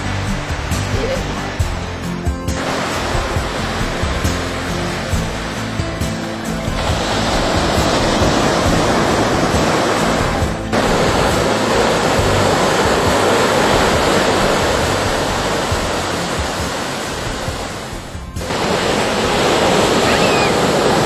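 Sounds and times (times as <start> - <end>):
ocean waves breaking on sand: 0.0 - 21.0.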